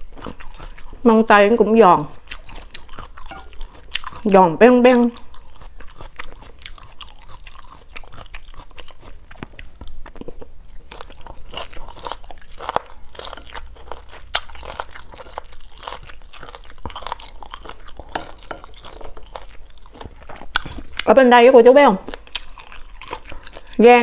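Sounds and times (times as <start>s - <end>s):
crunchy chewing: 0.0s - 21.2s, 22.0s - 23.9s.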